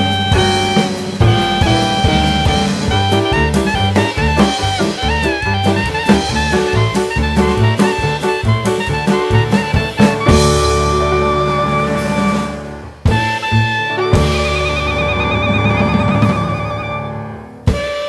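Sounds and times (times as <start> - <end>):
jazz music: 0.0 - 18.0.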